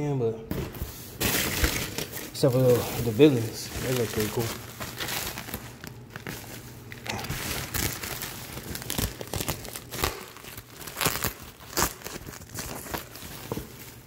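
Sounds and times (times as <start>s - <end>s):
plastic bags crinkling: 1.2s - 14.0s.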